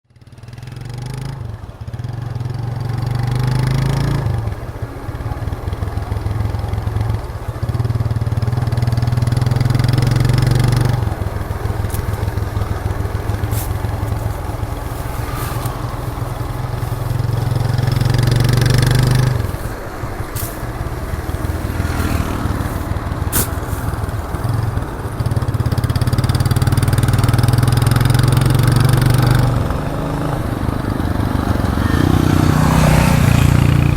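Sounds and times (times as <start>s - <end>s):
motorcycle engine under throttle: 0.1s - 33.9s.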